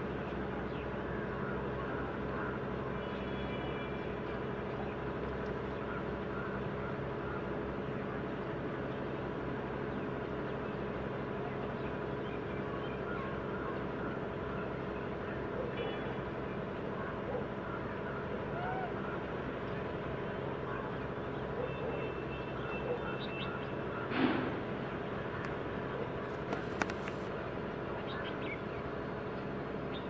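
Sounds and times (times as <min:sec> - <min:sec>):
speedboat motor running: 0:00.0 - 0:30.0.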